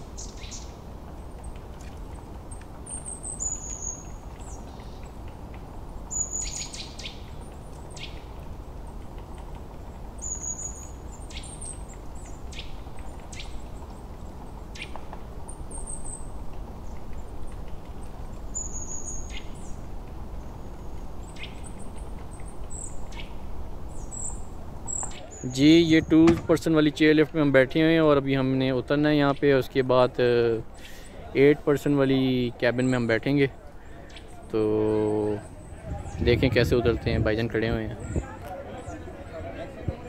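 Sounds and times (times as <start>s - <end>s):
small birds chirping: 0.0s - 40.0s
steady low background noise: 0.0s - 40.0s.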